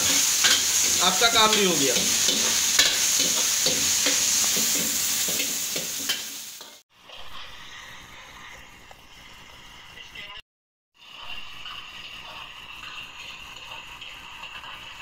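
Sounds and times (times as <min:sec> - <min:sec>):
ladle scraping a wok: 0:00.0 - 0:09.2, 0:11.0 - 0:15.0
chicken sizzling in hot oil: 0:00.0 - 0:09.8, 0:11.0 - 0:15.0.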